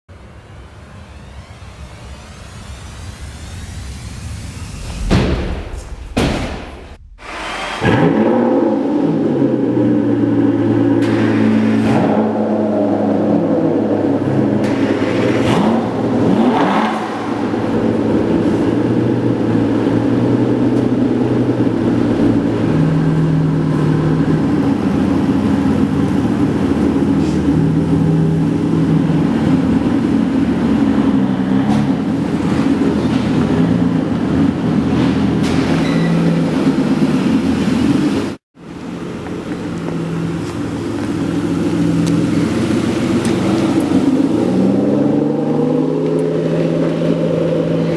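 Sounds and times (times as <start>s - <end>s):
car engine starting and revving: 0.1s - 47.9s.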